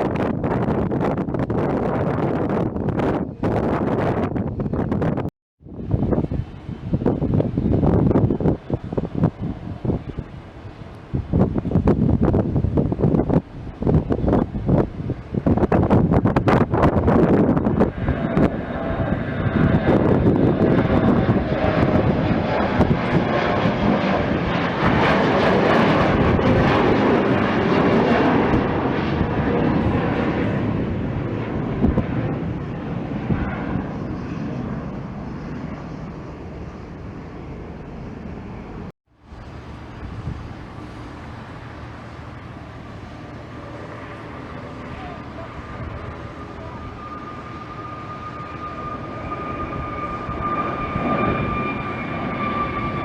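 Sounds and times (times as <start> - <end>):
airplane engines passing: 0.0 - 53.0.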